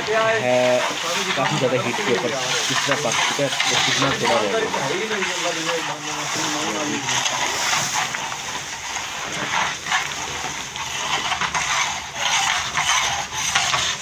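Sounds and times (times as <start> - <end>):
milk sizzling and bubbling in pan: 0.0 - 14.0.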